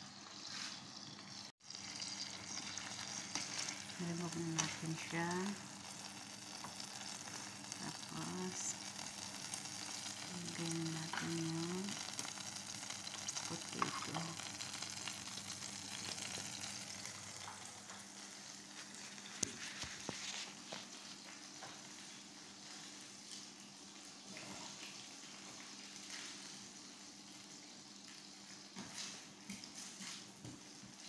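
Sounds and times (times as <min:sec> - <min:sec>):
oil sizzling in a frying pan: 0:00.0 - 0:31.0.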